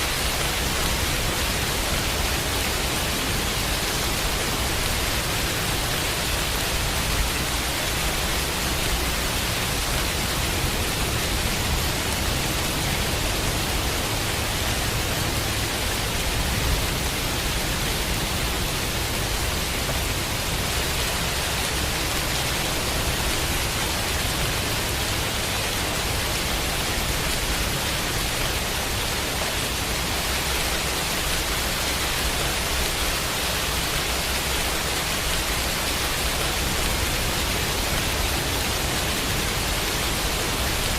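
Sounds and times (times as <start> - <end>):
dense rain hissing: 0.0 - 40.9
white noise: 0.0 - 40.9.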